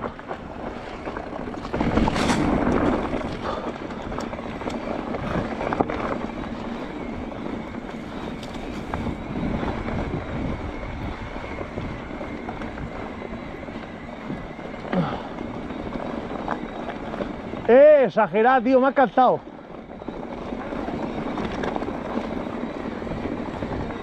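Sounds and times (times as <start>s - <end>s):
bike rattling and knocking: 0.0s - 24.0s
bike tyres rolling over rough ground: 0.0s - 24.0s.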